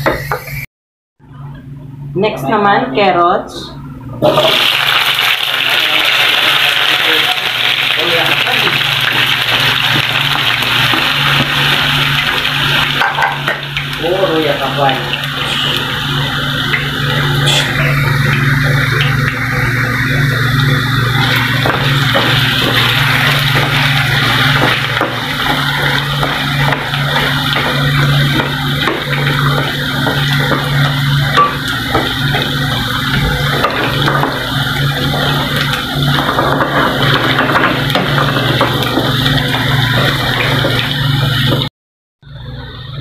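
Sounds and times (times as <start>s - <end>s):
carrots deep-frying in oil: 4.2s - 41.7s.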